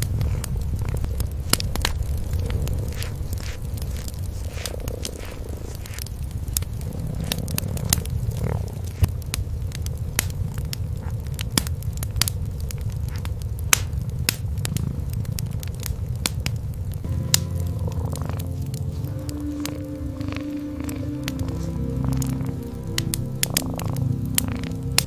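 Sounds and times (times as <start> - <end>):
cats purring: 0.0 - 25.0
wood fire crackling: 0.0 - 25.0.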